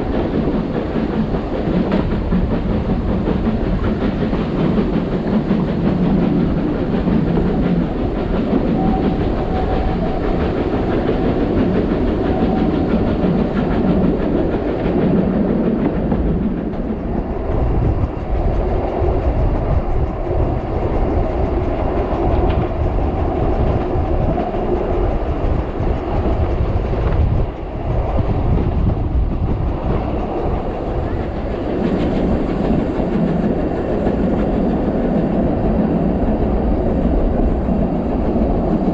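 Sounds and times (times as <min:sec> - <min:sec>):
train wheels on track: 0:00.0 - 0:38.9.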